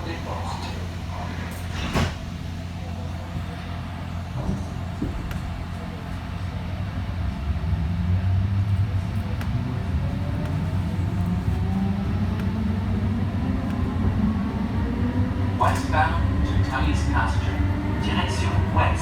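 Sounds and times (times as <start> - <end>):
train running gear rumble: 0.0 - 19.0.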